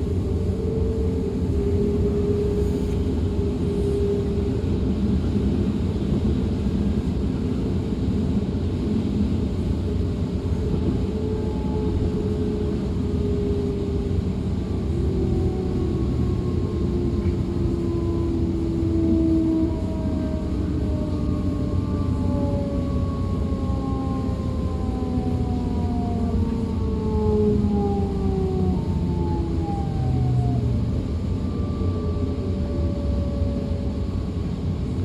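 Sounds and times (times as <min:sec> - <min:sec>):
electric traction drive whine: 0:00.0 - 0:35.0
train rumbling on track: 0:00.0 - 0:35.0.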